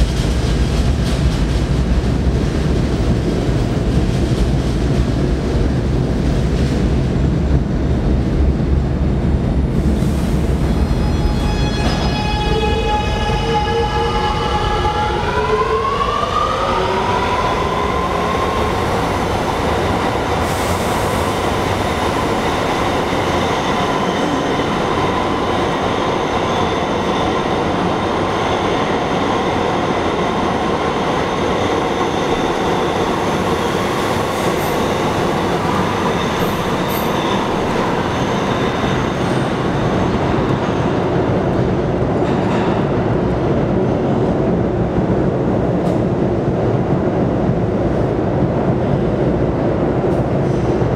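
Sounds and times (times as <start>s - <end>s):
train rumbling along rails: 0.0s - 50.9s.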